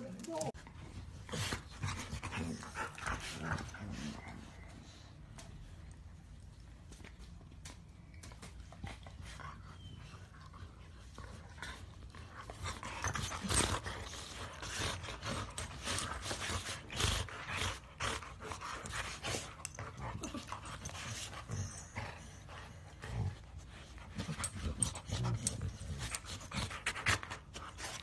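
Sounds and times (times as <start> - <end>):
dogs huffing and scuffling: 0.0 - 28.0.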